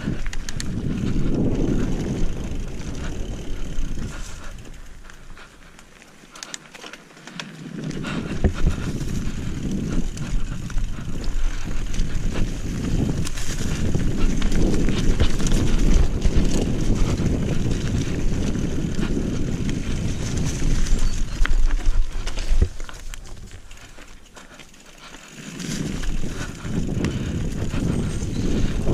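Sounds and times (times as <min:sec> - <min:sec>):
wind rumble on microphone: 0:00.0 - 0:05.7, 0:07.7 - 0:24.5, 0:25.4 - 0:28.9
bike clicking and rattling: 0:00.0 - 0:28.9
bike tyre noise: 0:00.0 - 0:28.9.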